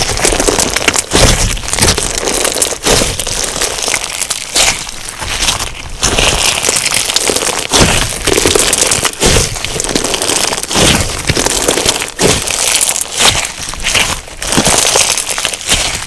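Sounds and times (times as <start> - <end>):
crunchy slime squeezed by hand: 0.0 - 16.0.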